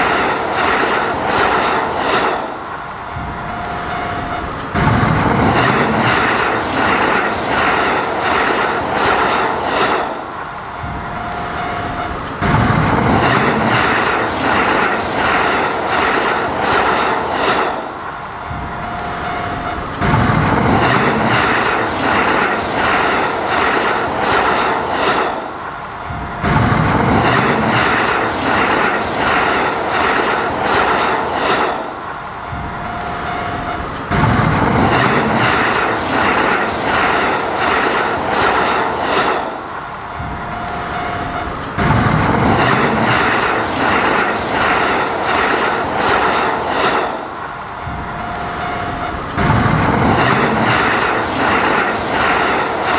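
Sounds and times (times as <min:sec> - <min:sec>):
train wheel squeal: 0:00.0 - 0:52.9
train wheels clacking over rail joints: 0:00.0 - 0:52.9.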